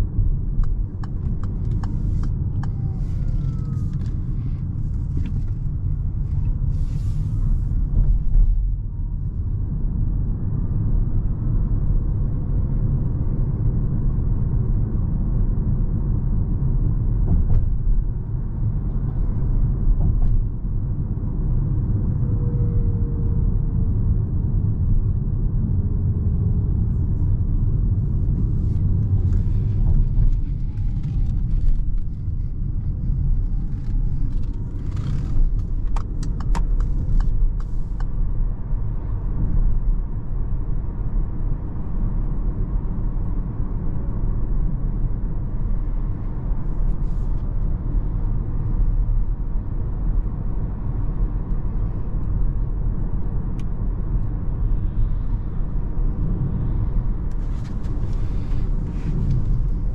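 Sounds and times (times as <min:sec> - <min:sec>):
road and tyre noise in car: 0:00.0 - 0:59.9.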